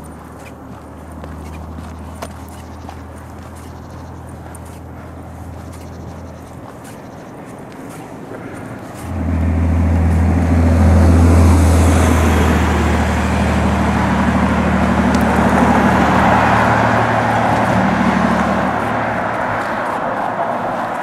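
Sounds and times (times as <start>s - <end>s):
car tyre noise: 0.0s - 21.0s
truck engine droning: 0.0s - 21.0s.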